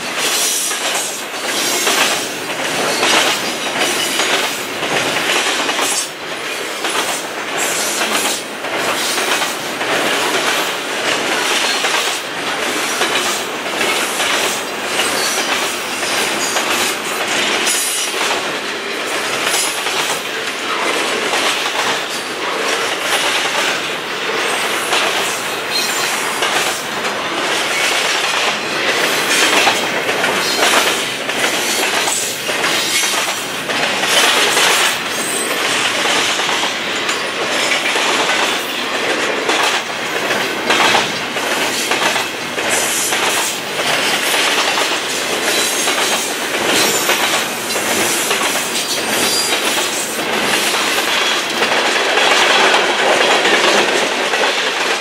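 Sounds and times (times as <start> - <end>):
train wheels clattering on rails: 0.0 - 55.0
wheels clicking over rail joints: 0.1 - 55.0.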